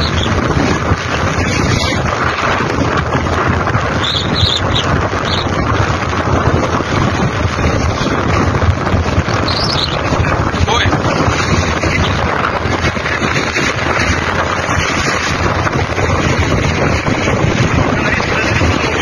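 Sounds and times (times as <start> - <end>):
fast-flowing floodwater rushing: 0.0 - 19.0
wind buffeting microphone: 0.0 - 19.0.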